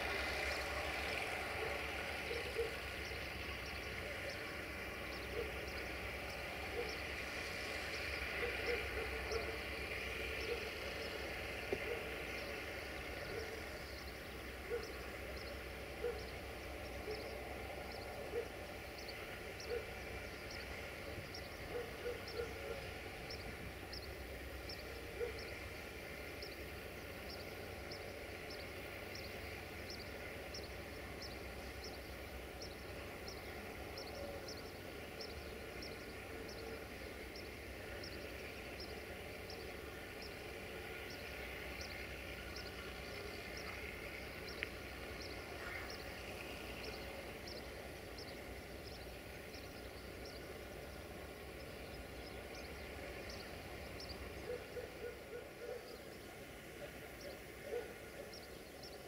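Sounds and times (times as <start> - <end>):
machine engine rumbling: 0.0 - 54.5.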